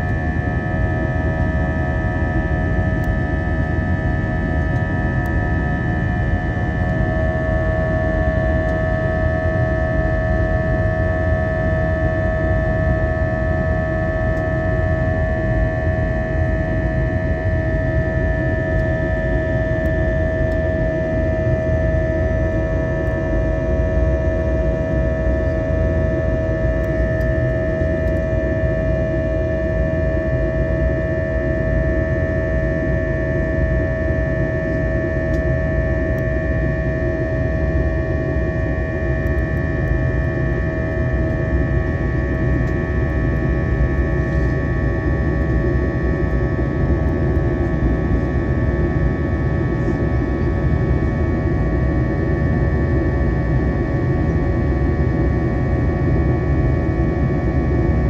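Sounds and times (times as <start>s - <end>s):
jet engine whine: 0.0s - 58.0s.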